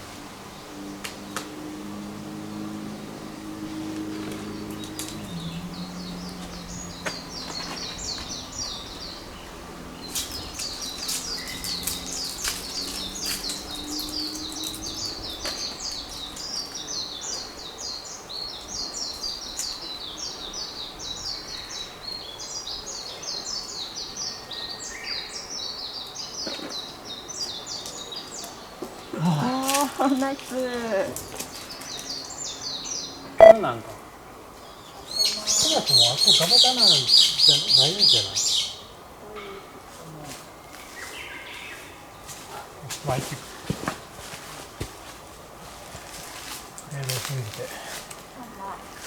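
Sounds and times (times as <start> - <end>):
songbirds twittering: 0.0 - 44.2.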